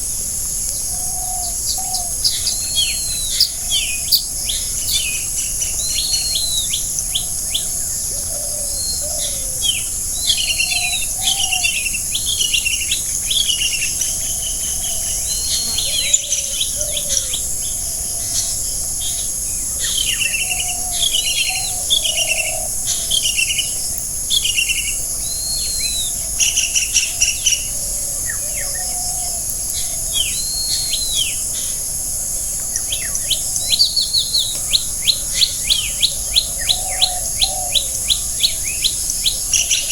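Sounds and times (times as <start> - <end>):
forest birds singing: 0.0 - 39.9
high insect buzz: 0.0 - 39.9.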